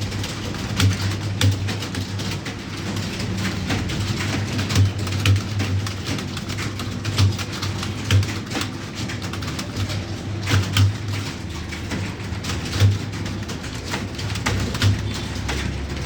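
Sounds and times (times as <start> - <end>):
keyboard typing: 0.0 - 16.0.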